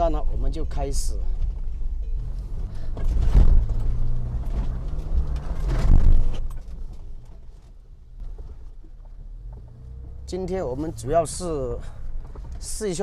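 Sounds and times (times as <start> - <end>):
vehicle rumbling over rough ground: 0.0 - 13.0
car engine running: 1.3 - 13.0.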